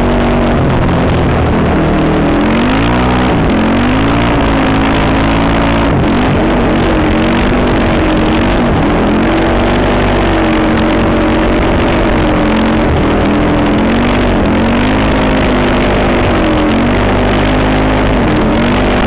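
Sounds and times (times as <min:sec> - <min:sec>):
quad bike engine running: 0:00.0 - 0:19.0
wind rush on microphone: 0:00.0 - 0:19.0.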